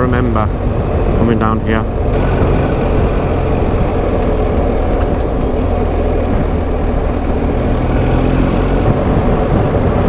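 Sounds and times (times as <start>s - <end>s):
motorcycle engine running: 0.0s - 10.0s
wind rushing over microphone: 0.0s - 10.0s.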